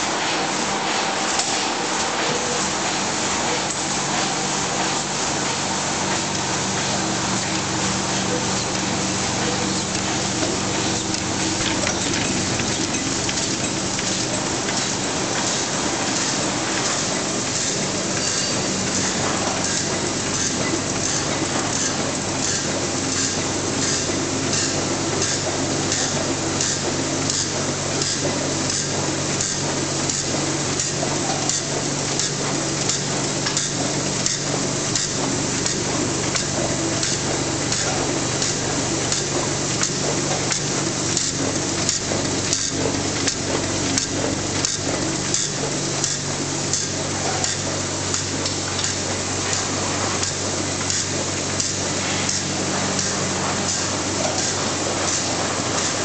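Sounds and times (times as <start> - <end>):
printing press running: 0.0 - 56.0.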